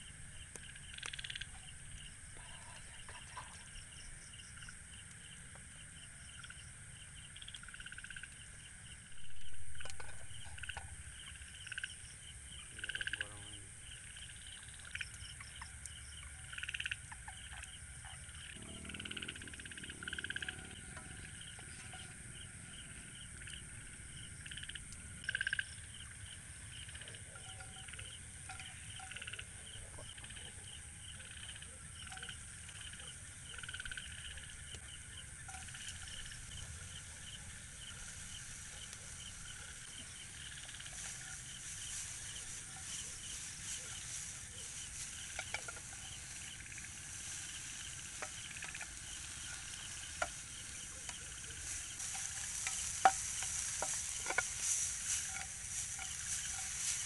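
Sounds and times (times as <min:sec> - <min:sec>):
crickets and insects trilling: 0:00.0 - 0:57.0
frogs calling: 0:00.0 - 0:57.0.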